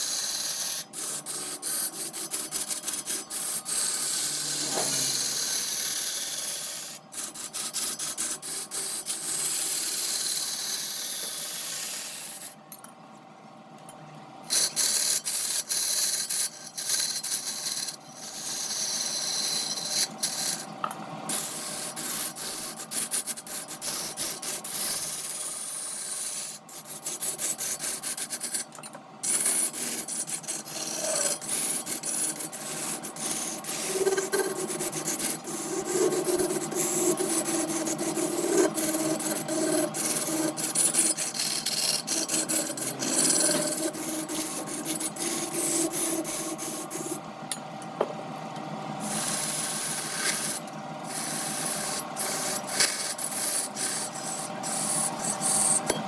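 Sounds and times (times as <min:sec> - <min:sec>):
lathe tool scraping wood: 0:00.0 - 0:07.4, 0:14.5 - 0:47.2, 0:49.0 - 0:56.0.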